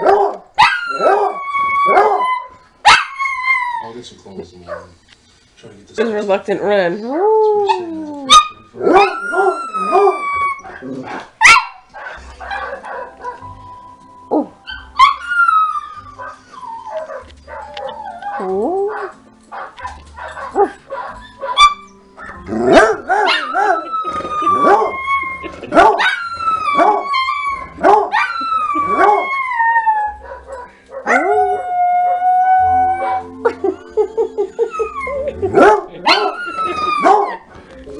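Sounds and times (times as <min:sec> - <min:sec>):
dogs barking and yipping: 0:00.0 - 0:04.0, 0:07.7 - 0:37.5
dogs howling: 0:00.0 - 0:04.0, 0:06.8 - 0:13.4, 0:14.3 - 0:37.5.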